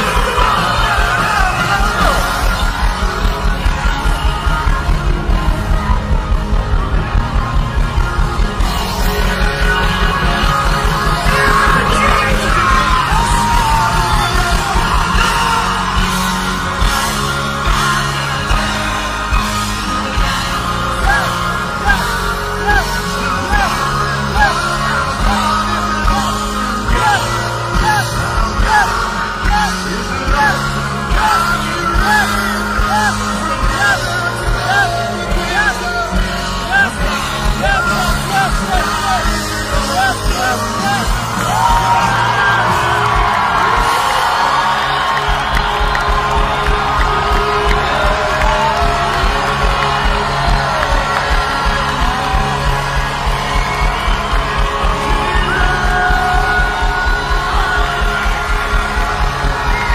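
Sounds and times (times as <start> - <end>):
bass line: 0.0 - 59.9
loud rock worship music: 0.0 - 59.9
people singing and yelling: 0.0 - 59.9
pounding drum beat: 0.0 - 59.9.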